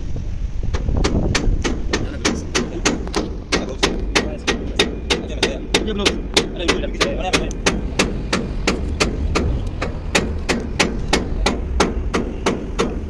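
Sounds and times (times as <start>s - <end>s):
hammer blows: 0.7s - 13.0s.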